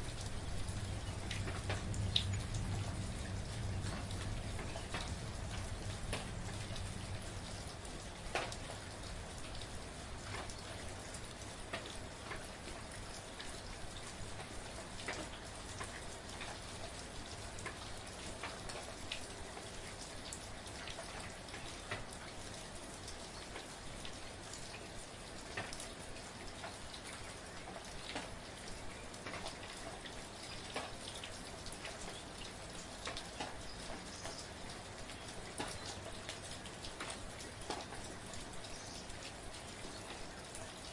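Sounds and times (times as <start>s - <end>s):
raindrops ticking: 0.0s - 40.9s
soft steady rain: 0.0s - 40.9s.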